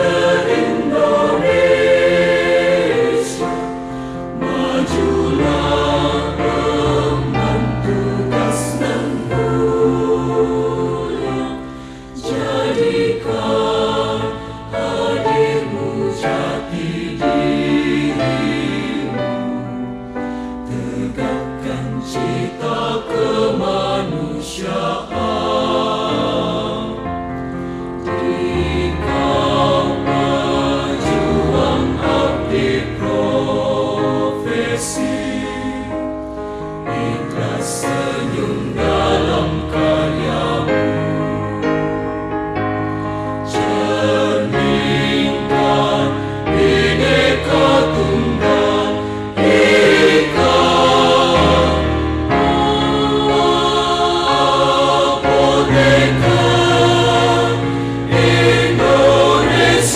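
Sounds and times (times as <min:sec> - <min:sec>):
choir singing with instruments: 0:00.0 - 0:59.9.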